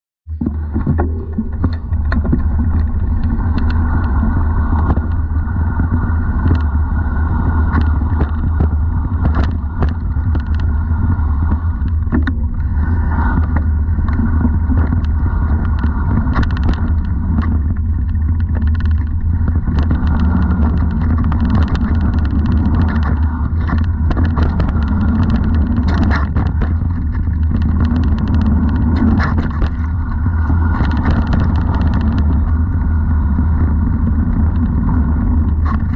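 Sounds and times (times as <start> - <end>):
tyre and wind noise: 0.3 - 35.9
bike clicks and rattles: 0.4 - 35.9.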